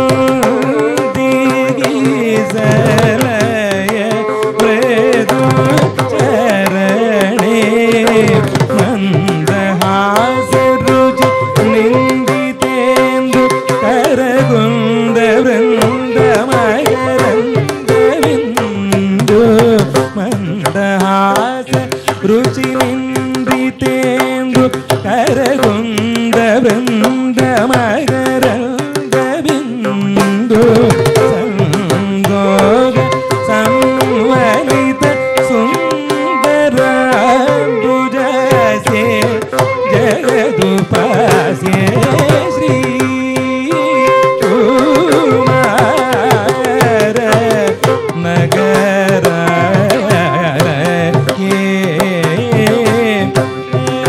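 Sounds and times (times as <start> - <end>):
hand drum rhythm: 0.0 - 54.0
man singing ornamented melody: 0.0 - 54.0
violin: 0.0 - 54.0.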